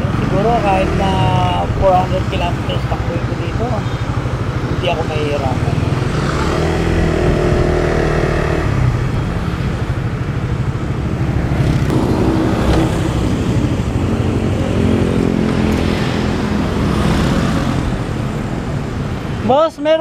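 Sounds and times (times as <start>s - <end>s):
motorcycle engine running: 0.0s - 17.2s
road noise: 0.0s - 20.0s.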